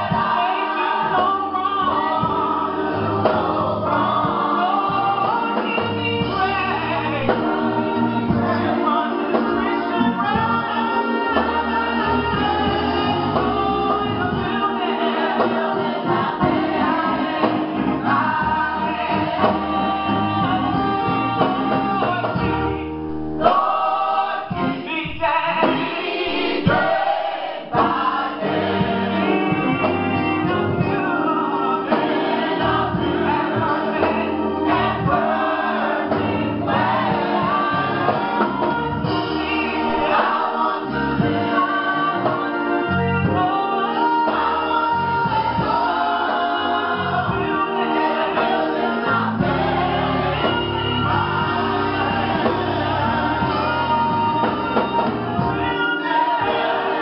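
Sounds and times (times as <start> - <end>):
band accompaniment: 0.0 - 57.0
gospel choir singing: 0.0 - 57.0.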